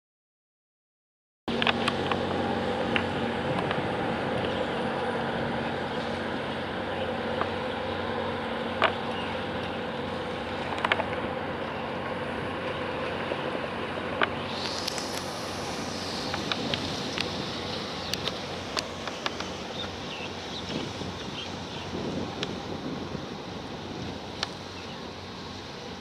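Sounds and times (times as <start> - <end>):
ship engine humming: 1.5 - 26.0.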